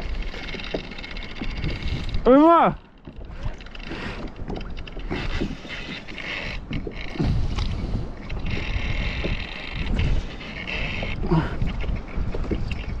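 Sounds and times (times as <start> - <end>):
water sloshing against hull: 0.0 - 13.0
wind buffeting microphone: 0.0 - 13.0.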